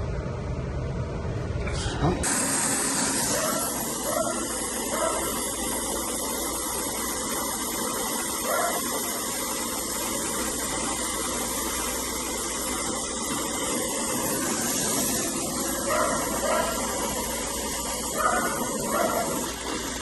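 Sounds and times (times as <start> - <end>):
gas hissing through lines: 1.5 - 20.0.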